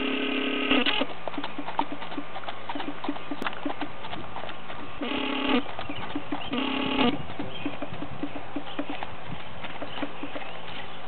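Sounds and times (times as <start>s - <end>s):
horse hoofbeats on gravel: 0.0s - 11.0s.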